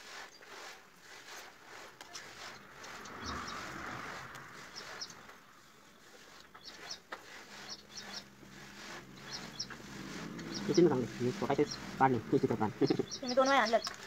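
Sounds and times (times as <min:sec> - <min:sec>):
pen scratching on paper: 0:00.1 - 0:05.2, 0:06.0 - 0:12.3
small birds chirping: 0:02.1 - 0:14.0.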